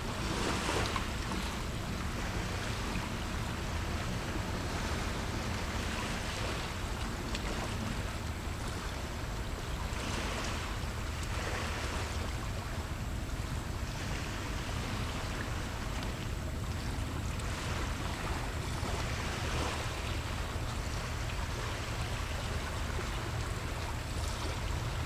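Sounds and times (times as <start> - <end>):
small sea waves washing in: 0.0 - 25.0.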